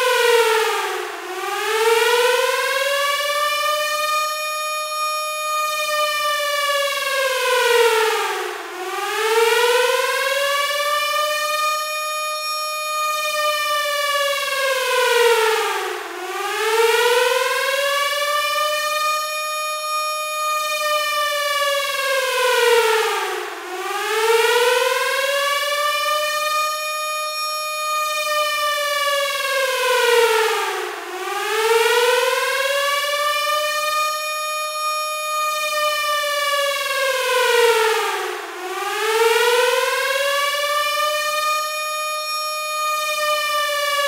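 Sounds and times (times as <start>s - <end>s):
air raid siren wailing: 0.0s - 44.0s.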